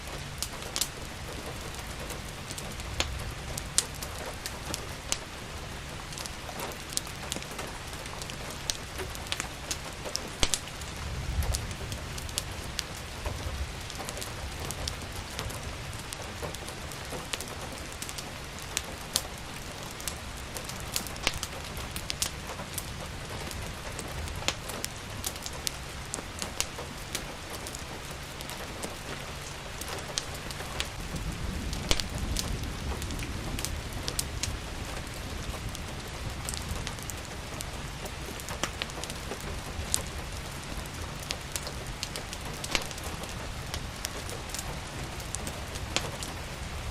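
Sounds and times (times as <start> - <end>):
steady rain: 0.0 - 46.9
wood fire crackling: 0.0 - 46.9.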